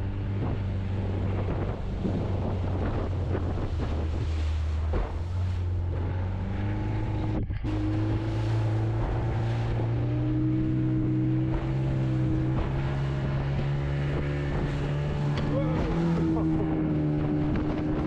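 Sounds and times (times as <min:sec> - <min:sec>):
boat motor running: 0:00.0 - 0:18.0
water rushing past hull: 0:00.0 - 0:18.0
wind buffeting microphone: 0:00.0 - 0:18.0.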